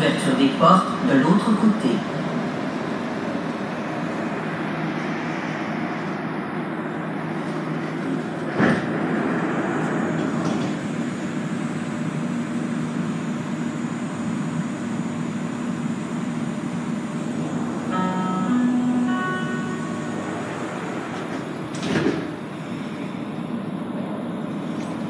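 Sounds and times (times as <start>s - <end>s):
stopped train humming: 0.0s - 25.0s.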